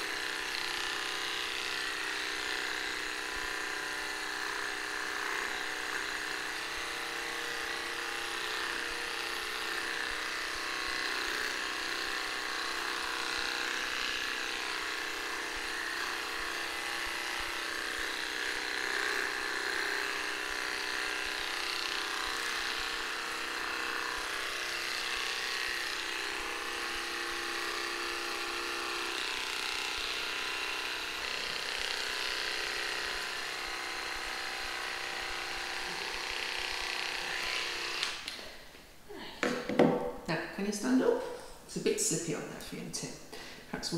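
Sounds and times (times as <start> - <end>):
electric clippers buzzing: 0.0 - 38.6.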